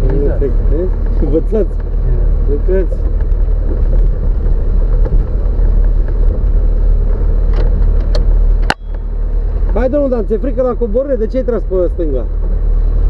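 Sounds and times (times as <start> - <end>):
engine rumbling at low speed: 0.0 - 13.0.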